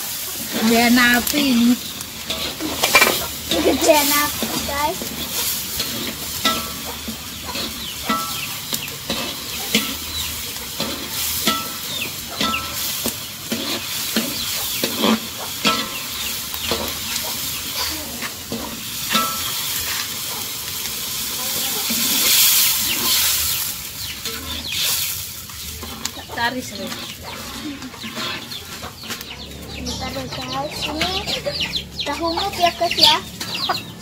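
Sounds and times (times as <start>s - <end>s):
metal spatula scraping wok: 0.0s - 33.9s
frying sizzle: 0.0s - 34.0s.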